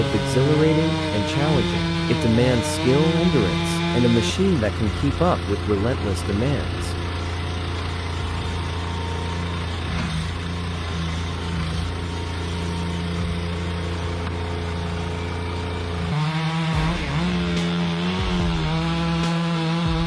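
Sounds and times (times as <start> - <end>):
chainsaw engine running: 0.0 - 20.0.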